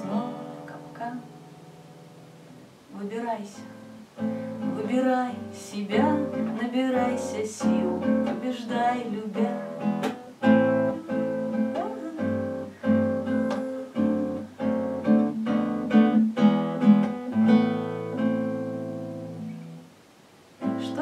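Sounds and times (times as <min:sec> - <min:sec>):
acoustic guitar strumming chords: 0:00.0 - 0:02.8, 0:03.6 - 0:19.9.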